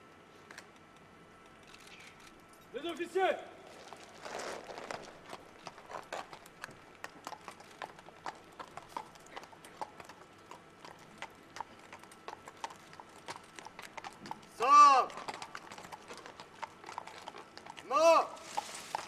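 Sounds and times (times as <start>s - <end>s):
horse hooves clip-clopping: 3.6s - 19.0s.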